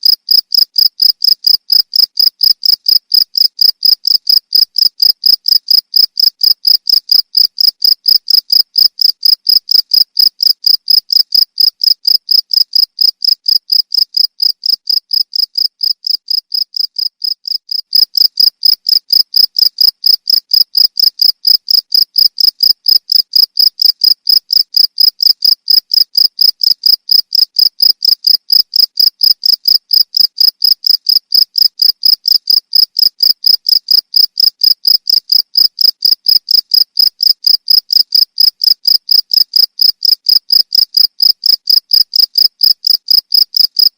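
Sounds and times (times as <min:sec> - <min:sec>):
cricket chirping: 0:00.0 - 0:43.9.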